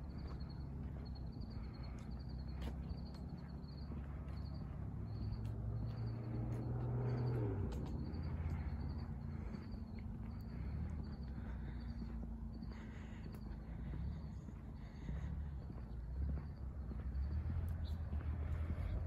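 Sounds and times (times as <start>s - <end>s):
footsteps on pavement: 0.0s - 19.0s
vehicle engine hum: 0.0s - 19.0s.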